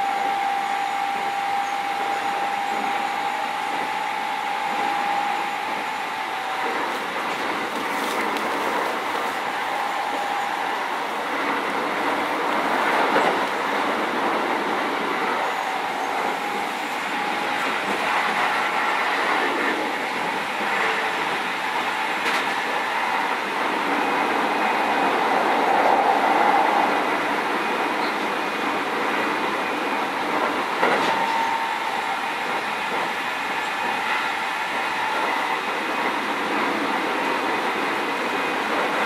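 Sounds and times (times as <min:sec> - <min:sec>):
train wheels on rail: 0:00.0 - 0:39.0.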